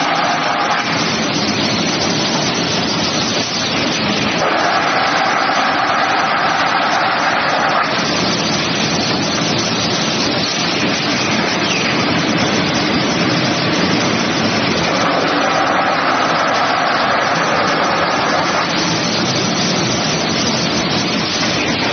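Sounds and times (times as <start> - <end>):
sanding machine running: 0.0 - 21.9.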